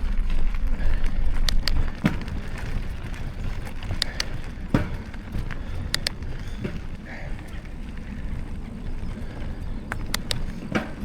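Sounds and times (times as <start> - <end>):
wind rumbling on microphone: 0.0 - 11.0
sharp clicks and knocks: 1.4 - 11.0.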